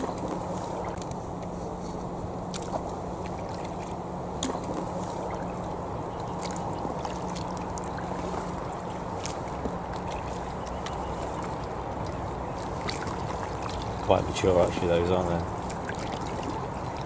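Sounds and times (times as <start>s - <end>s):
paddle splashing water: 0.0s - 17.0s.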